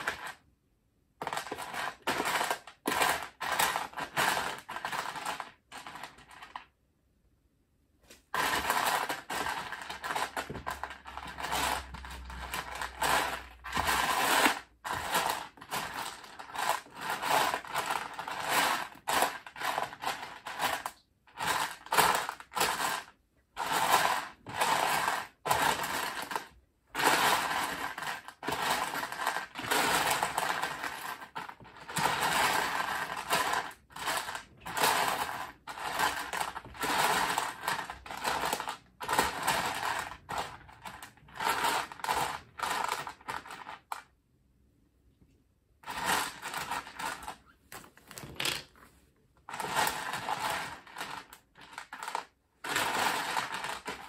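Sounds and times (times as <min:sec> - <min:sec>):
plastic toy bricks clattering: 0:01.2 - 0:06.6, 0:08.3 - 0:44.1, 0:45.8 - 0:47.5, 0:49.5 - 0:54.0.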